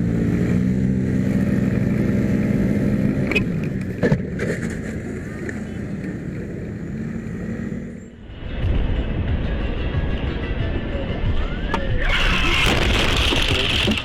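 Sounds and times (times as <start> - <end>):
road noise: 0.0 - 14.0
vehicle engine drone: 0.0 - 14.0.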